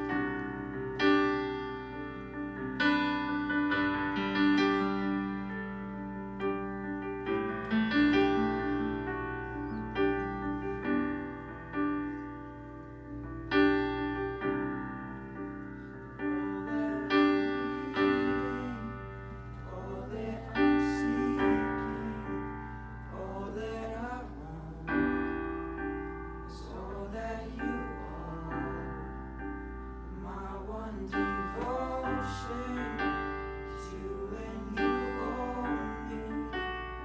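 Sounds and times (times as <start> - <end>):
slow piano chords: 0.0 - 37.0.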